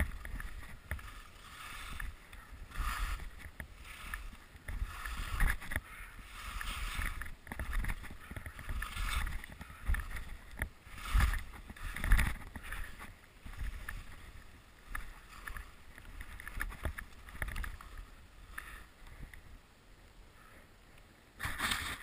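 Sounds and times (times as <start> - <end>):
skis swishing through snow: 0.0 - 18.9.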